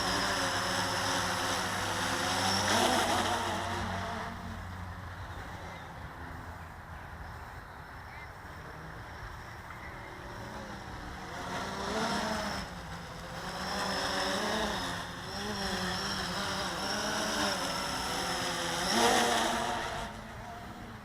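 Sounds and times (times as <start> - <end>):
quadcopter motors buzzing: 0.0 - 21.0.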